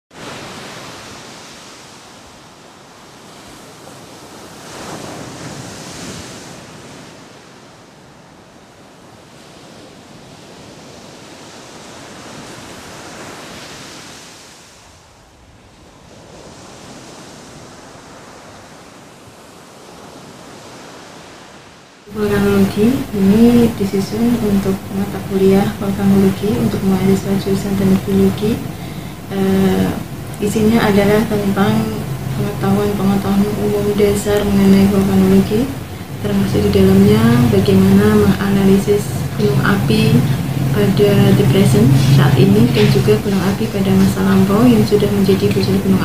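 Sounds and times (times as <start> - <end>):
ocean waves breaking: 0.1 - 46.0.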